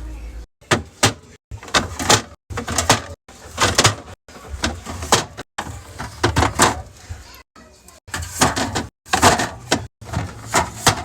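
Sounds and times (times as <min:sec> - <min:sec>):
groceries knocking and clattering: 0:00.6 - 0:11.0
sliding scrapes: 0:00.8 - 0:07.4, 0:08.1 - 0:11.0.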